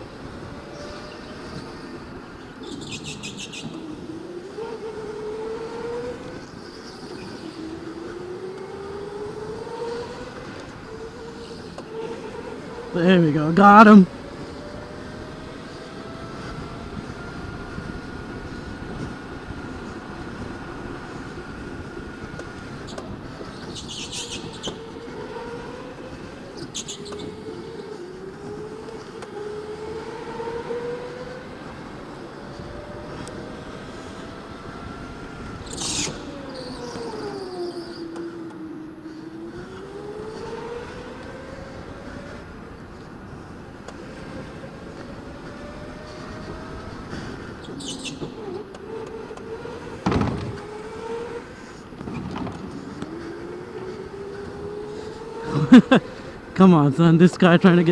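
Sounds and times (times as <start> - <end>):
electric go-kart motor whining: 3.7 - 13.4, 14.1 - 56.6.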